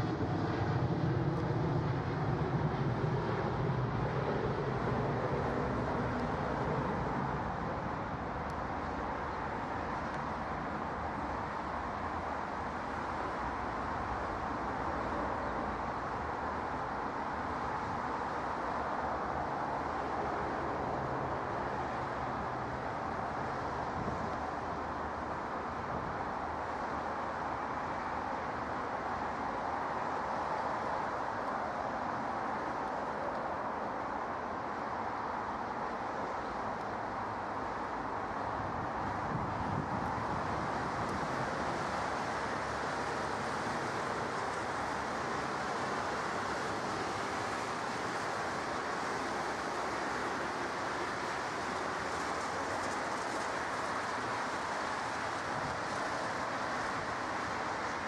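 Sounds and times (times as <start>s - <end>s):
jet aircraft engine noise: 0.0s - 58.0s.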